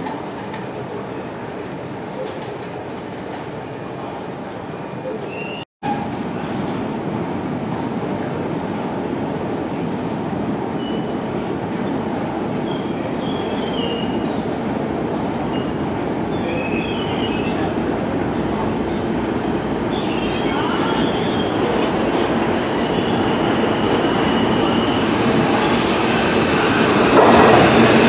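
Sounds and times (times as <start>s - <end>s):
subway train rumbling in tunnel: 0.0s - 28.0s.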